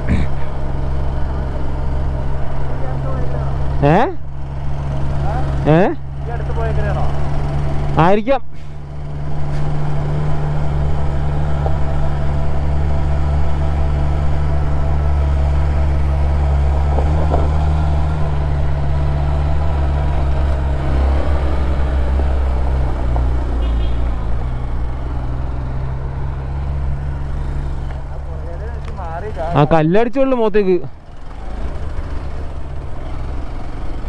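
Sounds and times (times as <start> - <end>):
vehicle engine droning: 0.0 - 34.0.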